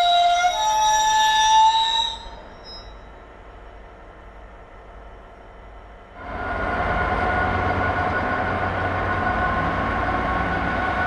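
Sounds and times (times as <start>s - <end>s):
train passing: 0.0s - 11.0s
train whine: 0.0s - 11.0s.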